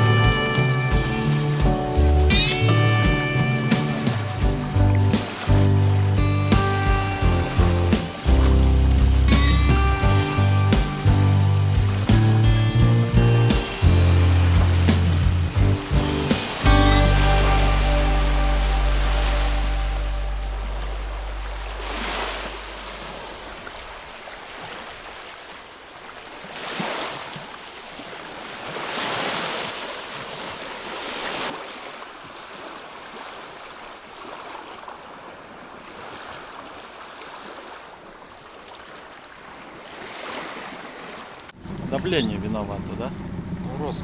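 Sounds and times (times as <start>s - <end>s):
waves washing and splashing: 0.0s - 44.0s
wind: 0.0s - 44.0s.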